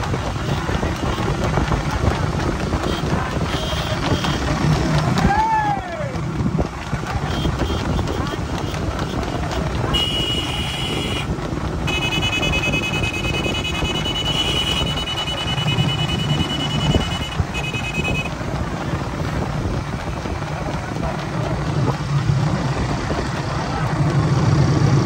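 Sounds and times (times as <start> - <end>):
small motorcycles running: 0.0 - 25.0
wind buffeting microphone: 0.0 - 25.0.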